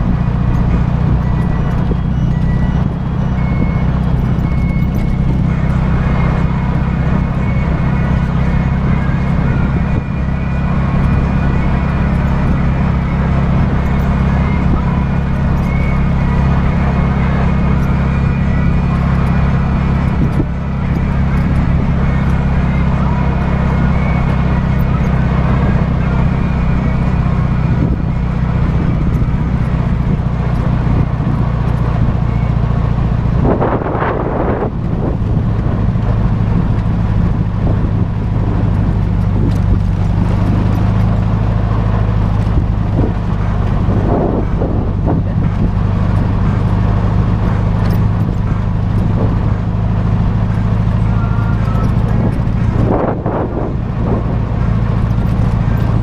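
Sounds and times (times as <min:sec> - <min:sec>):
trike engine running: 0:00.0 - 0:56.0.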